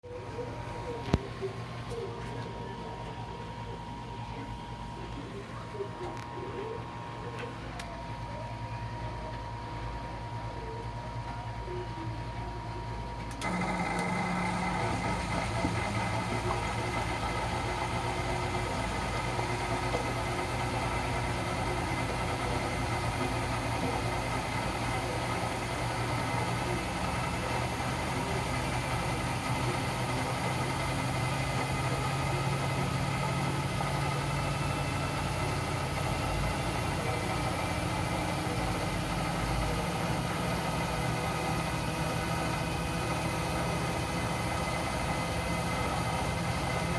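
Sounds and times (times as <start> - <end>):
washing machine hum: 0.0 - 46.9.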